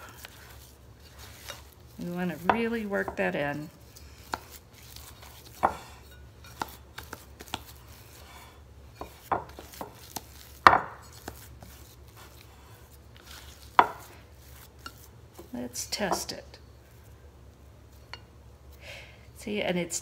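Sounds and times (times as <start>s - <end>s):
spatula scraping dough in bowl: 0.0s - 16.4s.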